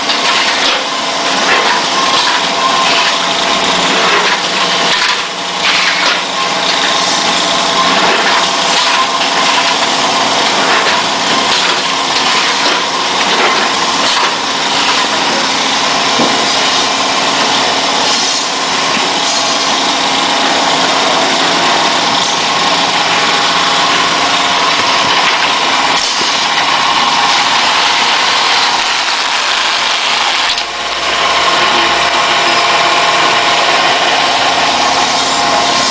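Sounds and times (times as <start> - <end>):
packaging machine humming: 0.0 - 35.9.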